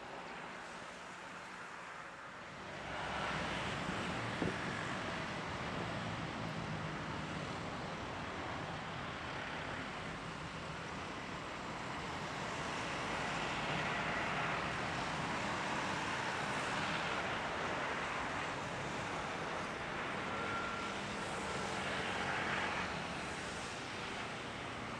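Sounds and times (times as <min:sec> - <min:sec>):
jet engines at takeoff thrust: 0:00.0 - 0:24.9.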